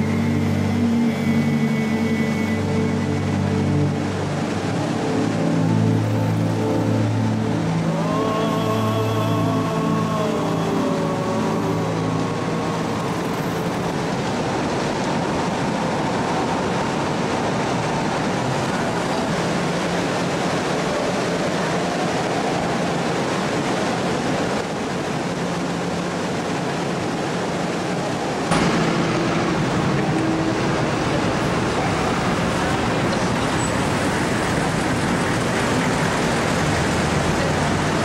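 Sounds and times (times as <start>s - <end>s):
ferry engine rumble: 0.0s - 38.0s.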